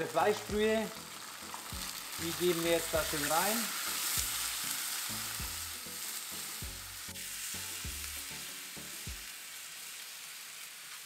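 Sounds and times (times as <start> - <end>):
broth sizzling in a hot pan: 0.0 - 11.0.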